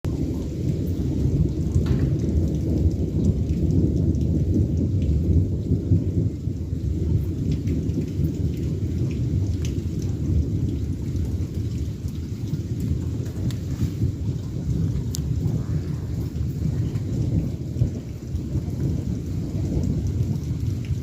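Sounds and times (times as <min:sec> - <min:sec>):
rain pattering: 0:00.0 - 0:21.0
rolling thunder: 0:00.0 - 0:21.0.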